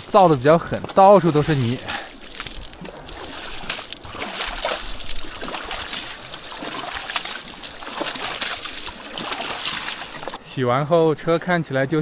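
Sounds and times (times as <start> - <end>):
water splashing: 0.0 - 10.4.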